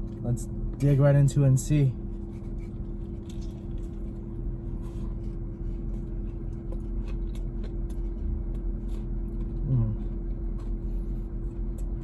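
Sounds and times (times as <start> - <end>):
crunchy food crackles and clicks: 2.0 - 12.0.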